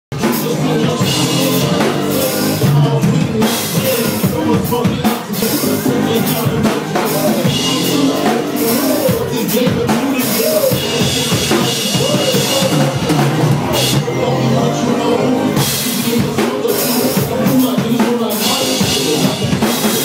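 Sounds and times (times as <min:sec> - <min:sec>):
electronic dance music: 0:00.1 - 0:20.0
synthesizers: 0:00.1 - 0:20.0.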